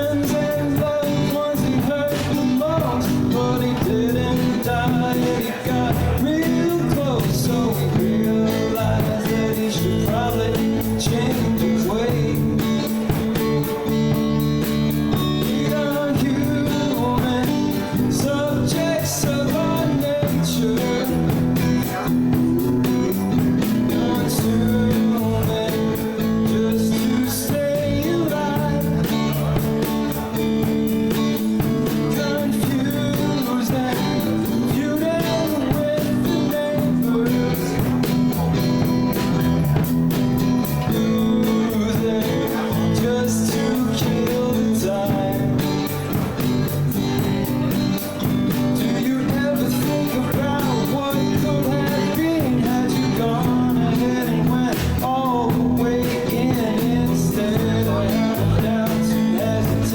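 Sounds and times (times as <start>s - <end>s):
bass guitar: 0.0s - 59.9s
drums: 0.0s - 59.9s
electric guitar: 0.0s - 59.9s
person singing: 0.0s - 59.9s.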